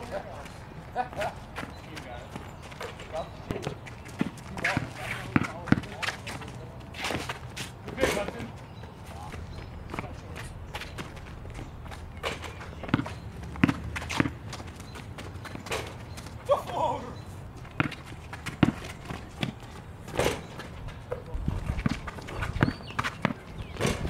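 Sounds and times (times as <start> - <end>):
basketball bouncing on asphalt: 1.5 - 6.5, 7.1 - 16.5, 17.5 - 24.0.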